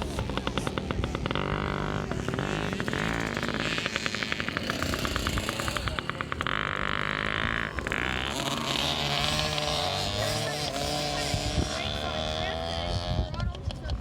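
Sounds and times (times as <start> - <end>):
small two-stroke engine revving: 0.0 - 14.0.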